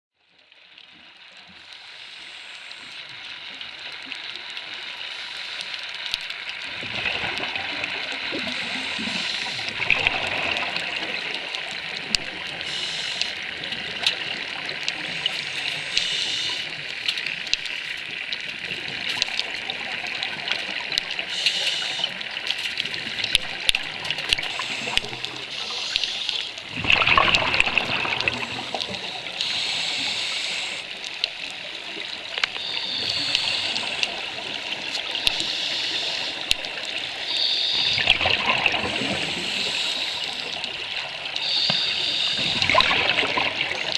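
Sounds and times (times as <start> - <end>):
crackling hiss: 0.3 - 43.9
underwater bubbles gurgling: 0.3 - 43.9.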